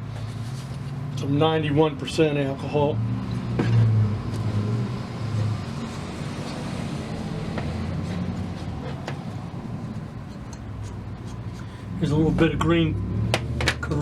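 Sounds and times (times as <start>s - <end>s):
low mechanical hum: 0.0s - 13.1s.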